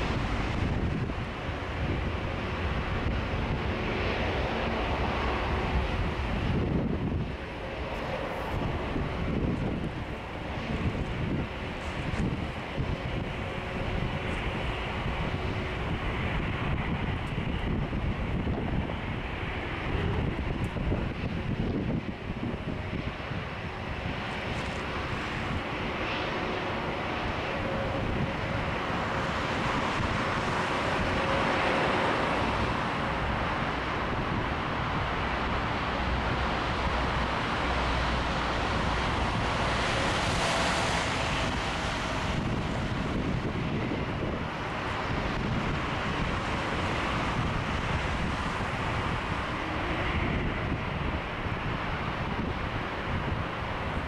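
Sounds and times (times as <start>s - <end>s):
jet engines running: 0.0s - 54.0s
wind buffeting microphone: 0.0s - 54.0s.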